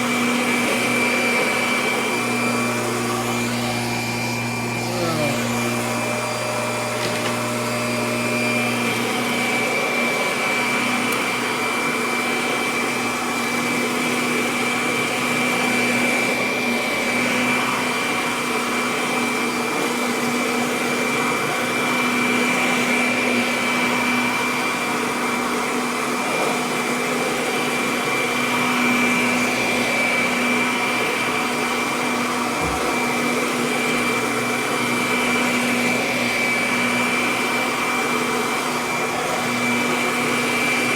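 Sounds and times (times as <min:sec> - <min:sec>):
vacuum cleaner whine: 0:00.0 - 0:40.9.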